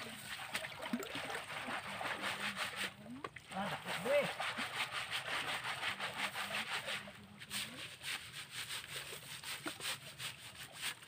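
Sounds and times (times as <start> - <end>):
rhythmic hand scraping: 1.5 - 11.0.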